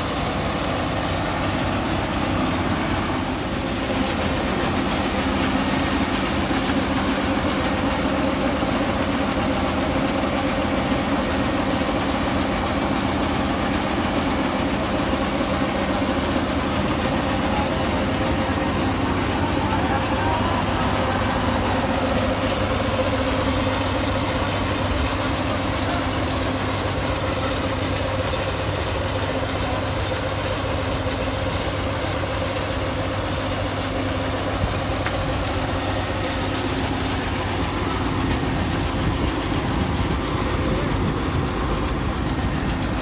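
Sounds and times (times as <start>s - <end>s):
combine harvester engine hum: 0.0s - 43.0s
grain pouring from auger: 0.0s - 43.0s.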